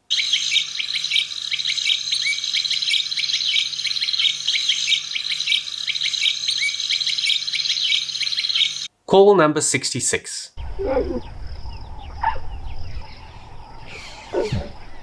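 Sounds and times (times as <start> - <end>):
birds chirping: 0.1 - 8.9, 10.6 - 15.0.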